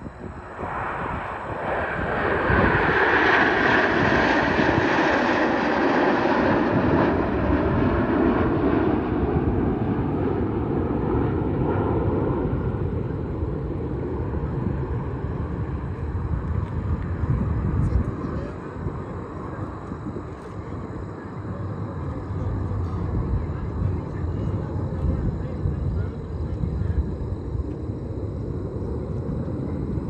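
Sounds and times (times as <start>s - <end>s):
jet aircraft roar: 0.0s - 30.0s.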